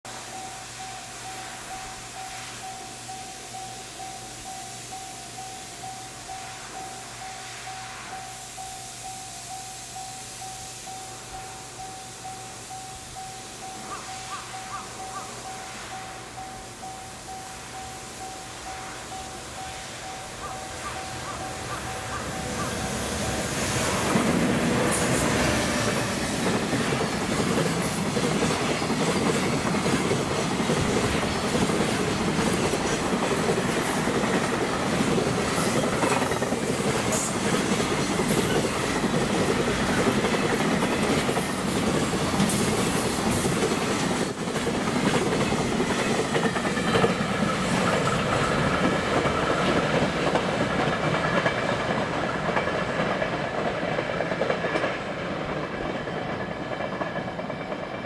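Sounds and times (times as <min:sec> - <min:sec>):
locomotive passing: 0:00.1 - 0:58.0.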